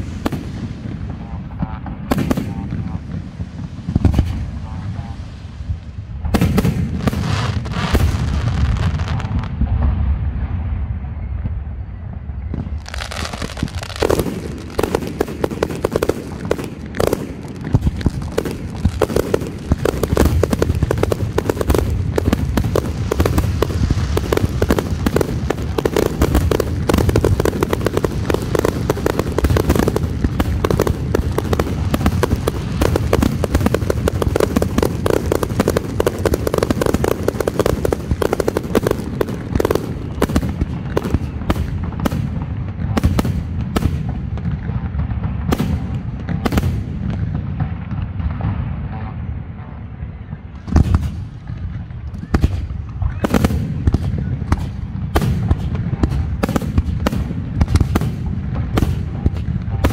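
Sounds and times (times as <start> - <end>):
fireworks launching and bursting: 0.0 - 10.6, 12.4 - 49.3, 50.4 - 59.9.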